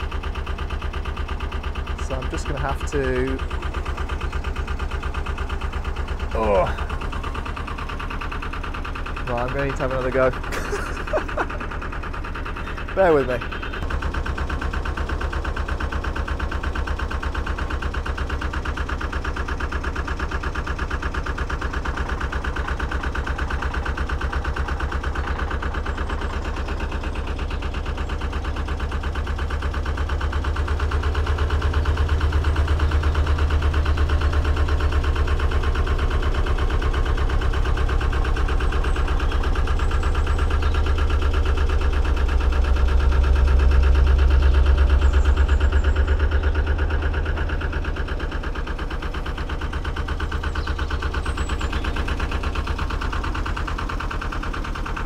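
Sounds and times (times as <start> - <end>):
diesel boat engine pulsing: 0.0 - 55.0.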